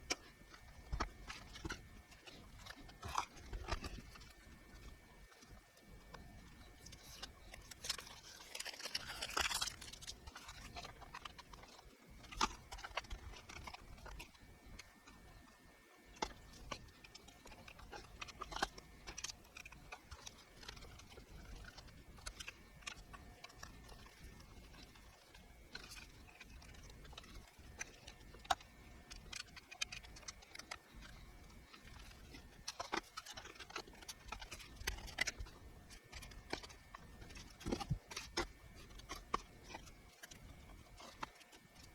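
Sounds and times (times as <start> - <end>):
faint steady whine: 0.0 - 41.9.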